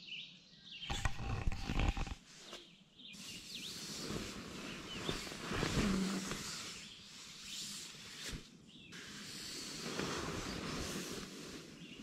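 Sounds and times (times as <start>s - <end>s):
sleeping bag fabric rustling: 1.3s - 12.0s.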